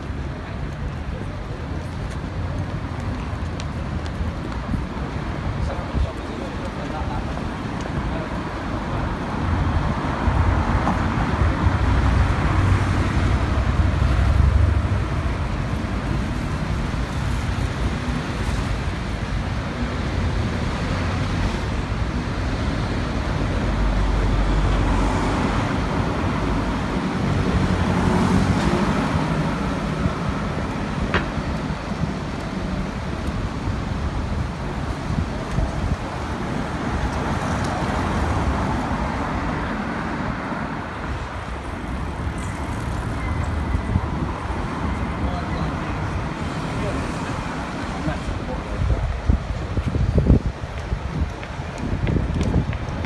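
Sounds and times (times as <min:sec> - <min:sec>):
passing cars and lorries: 0:00.0 - 0:53.0.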